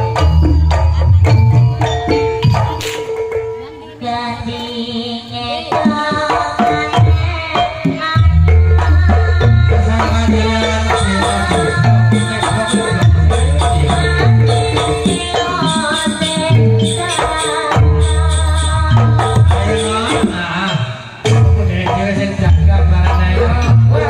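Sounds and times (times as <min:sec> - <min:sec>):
hand drums beating: 0:00.0 - 0:04.6, 0:05.5 - 0:24.0.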